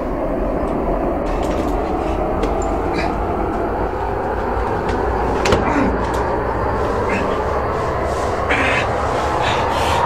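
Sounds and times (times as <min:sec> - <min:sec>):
dense rumbling drone: 0:00.0 - 0:10.0.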